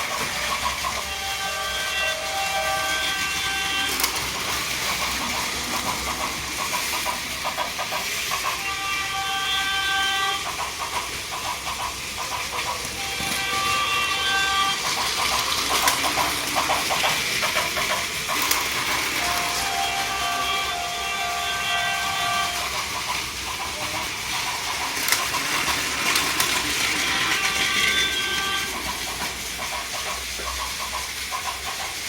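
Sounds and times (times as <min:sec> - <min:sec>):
toy trains rattling on plastic track: 0:00.0 - 0:32.0.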